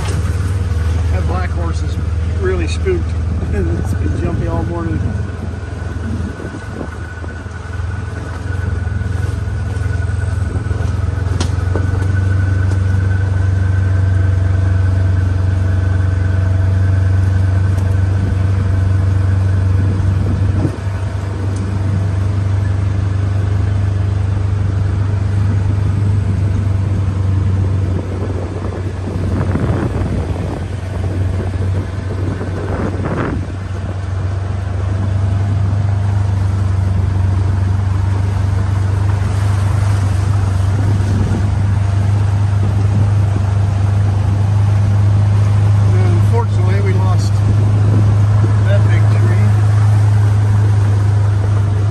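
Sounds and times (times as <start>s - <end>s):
vehicle engine humming: 0.0s - 51.9s.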